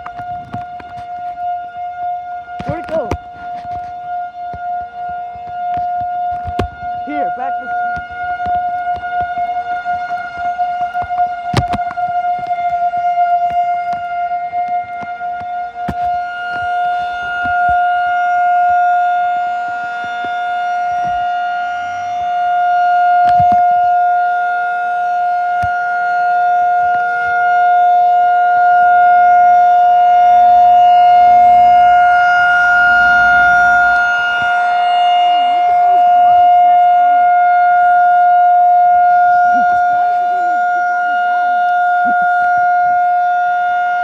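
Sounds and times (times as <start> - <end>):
rotating tornado siren: 0.0 - 44.0.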